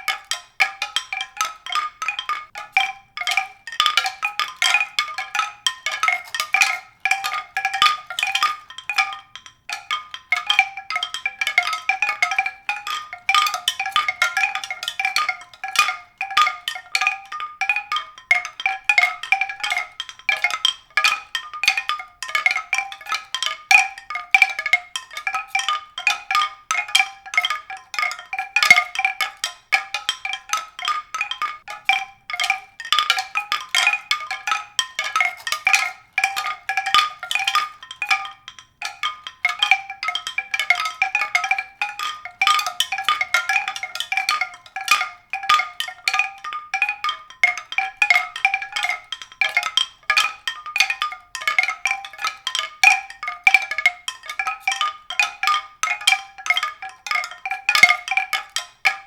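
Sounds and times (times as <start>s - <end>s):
mallet percussion notes: 0.0s - 59.0s.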